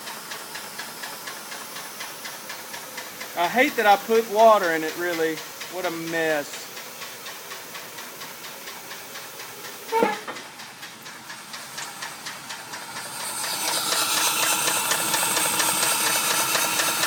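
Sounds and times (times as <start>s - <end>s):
engine tapping: 0.0s - 17.0s.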